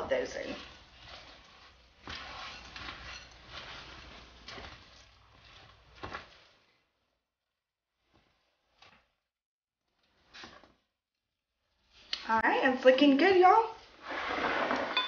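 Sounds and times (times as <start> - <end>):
spatula stirring thick batter: 0.0 - 12.3.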